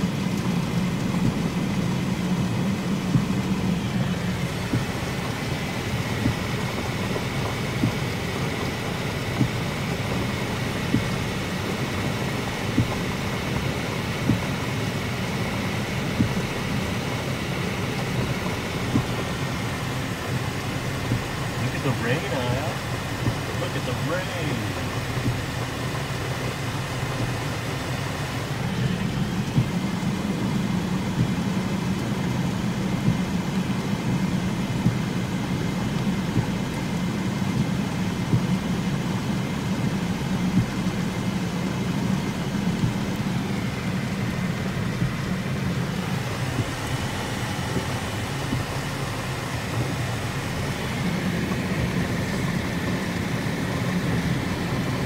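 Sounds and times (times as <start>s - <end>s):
heavy rain on car roof: 0.0s - 55.0s
idling car hum: 0.0s - 55.0s.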